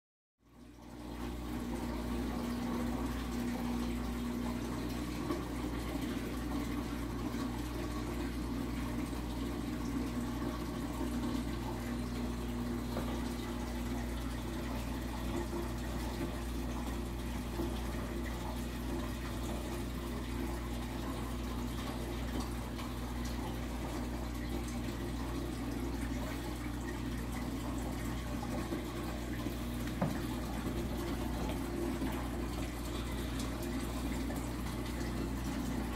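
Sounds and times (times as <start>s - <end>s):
low pump hum: 0.4s - 35.9s
water running and splashing: 1.2s - 35.9s.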